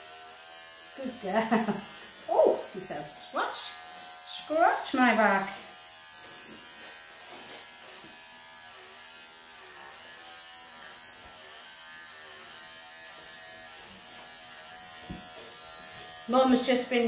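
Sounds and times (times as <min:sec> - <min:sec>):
electric pet clippers buzzing: 0:00.0 - 0:17.0.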